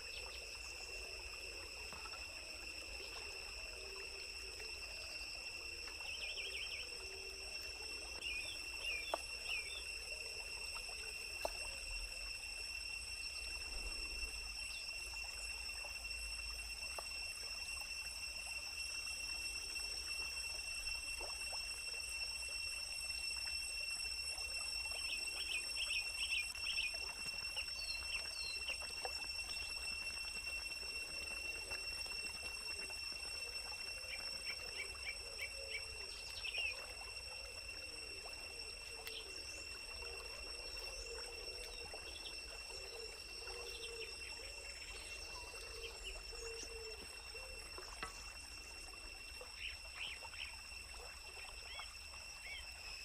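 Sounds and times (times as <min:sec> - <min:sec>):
high-pitched insect drone: 0:00.0 - 0:53.0.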